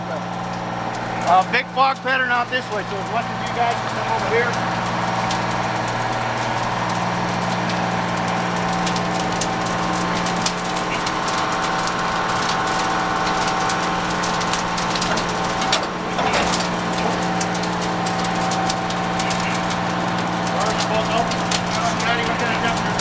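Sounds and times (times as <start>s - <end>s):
steady engine drone: 0.0s - 23.0s
wood fire crackling and popping: 0.0s - 23.0s.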